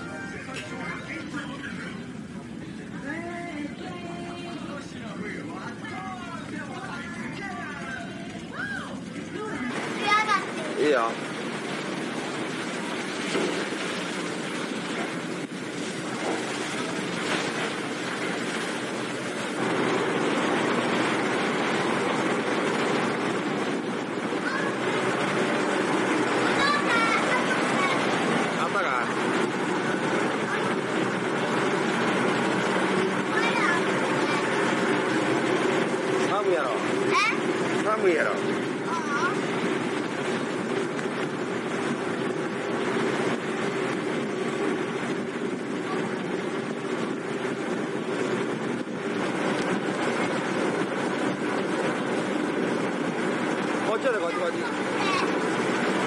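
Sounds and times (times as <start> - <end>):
ferry engine hum: 0.0 - 56.0
rushing water: 0.0 - 56.0
wind: 0.0 - 56.0.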